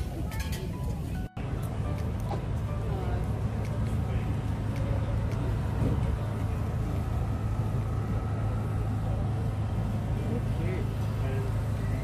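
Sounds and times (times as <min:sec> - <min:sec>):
faint indistinct voices: 0:00.0 - 0:12.0
steady low rumble: 0:00.8 - 0:12.0.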